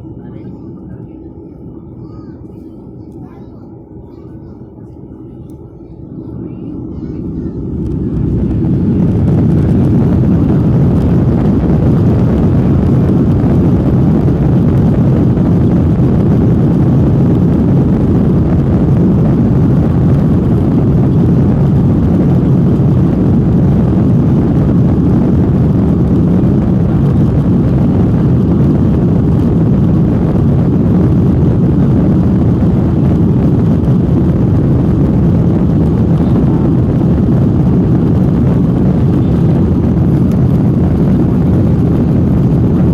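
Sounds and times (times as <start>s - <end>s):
jet engines low rumble: 0.0s - 42.9s.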